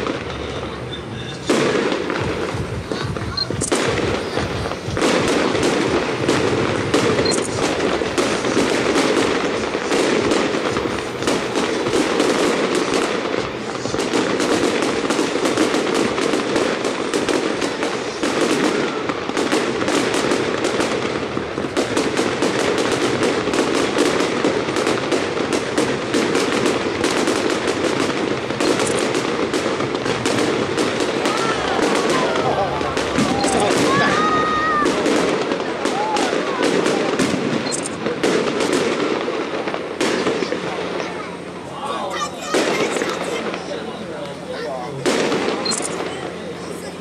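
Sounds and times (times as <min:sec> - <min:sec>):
fireworks crackling and banging: 0:00.0 - 0:47.0.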